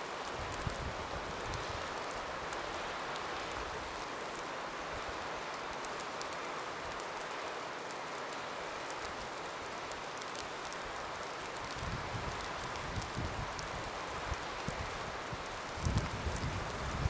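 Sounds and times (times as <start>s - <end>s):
wind and falling snow hiss: 0.0s - 17.0s
faint ticks: 0.2s - 17.0s.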